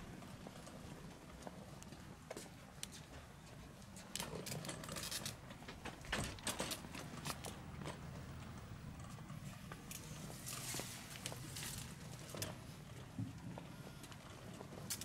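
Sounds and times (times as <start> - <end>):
cart wheels rumbling over pavement: 0.0 - 15.0.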